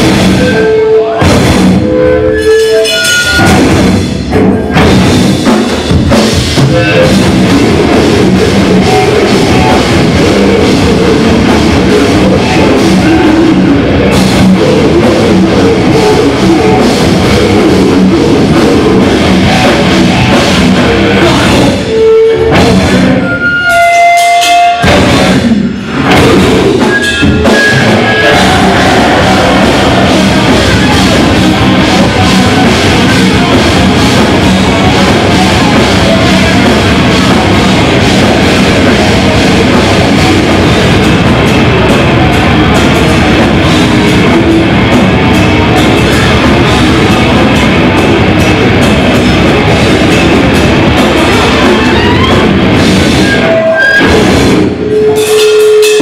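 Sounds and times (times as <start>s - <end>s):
distorted electric guitars: 0.0s - 56.0s
drum kit: 0.0s - 56.0s
live metal band playing: 0.0s - 56.0s.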